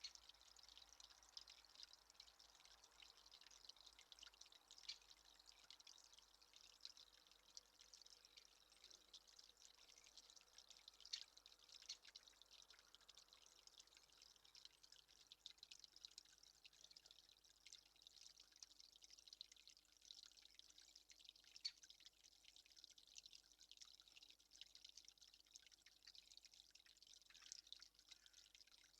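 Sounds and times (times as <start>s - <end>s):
water dripping: 0.0s - 28.9s.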